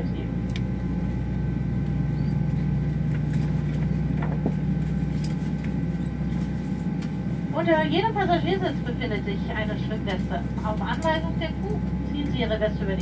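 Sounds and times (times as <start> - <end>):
low air conditioning hum: 0.0 - 13.0.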